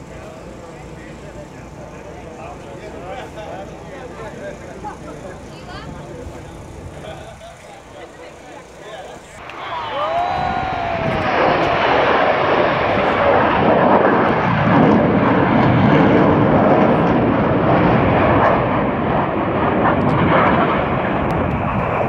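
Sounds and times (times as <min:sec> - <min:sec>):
jet aircraft flying overhead: 0:00.0 - 0:22.0.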